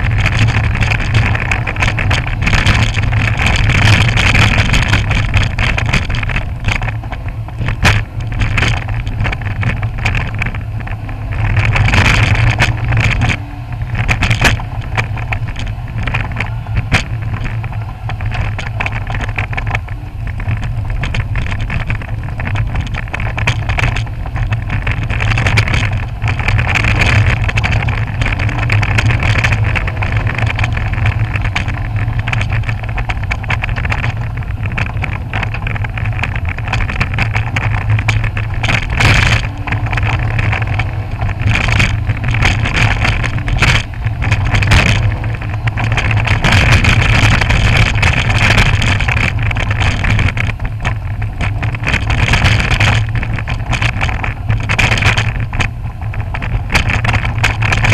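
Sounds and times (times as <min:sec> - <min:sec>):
car engine running: 0:00.0 - 0:57.9.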